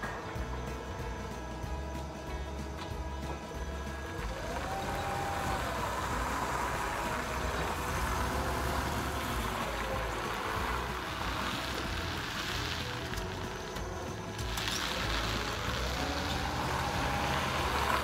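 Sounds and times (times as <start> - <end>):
forklift engine running: 0.0 - 18.0
tyres on gravel: 0.0 - 18.0.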